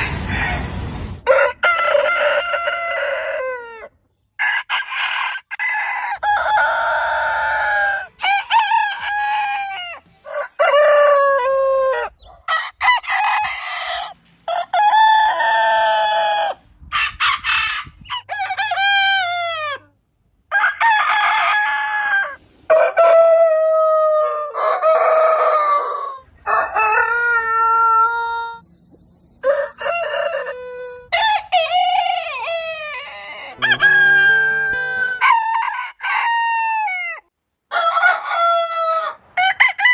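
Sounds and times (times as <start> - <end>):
roosters crowing: 0.0 - 19.9, 20.5 - 28.6, 29.4 - 39.9.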